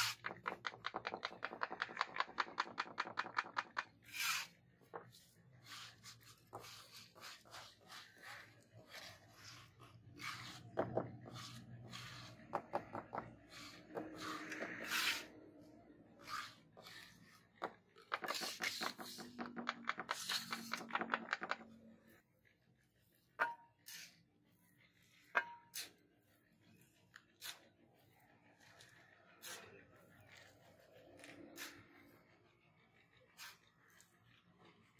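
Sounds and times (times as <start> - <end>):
trowel scraping wet cement: 0.0 - 21.9, 23.8 - 24.3, 26.7 - 32.2, 33.4 - 34.3.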